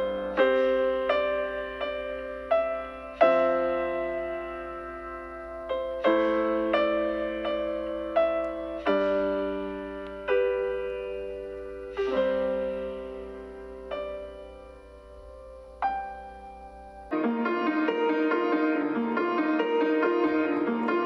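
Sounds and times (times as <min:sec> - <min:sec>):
gentle solo piano music: 0:00.0 - 0:21.0.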